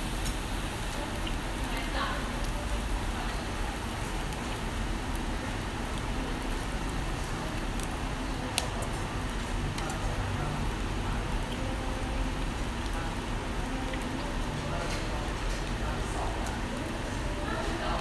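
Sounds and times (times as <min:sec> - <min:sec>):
fish sizzling on a grill: 0:00.0 - 0:18.0.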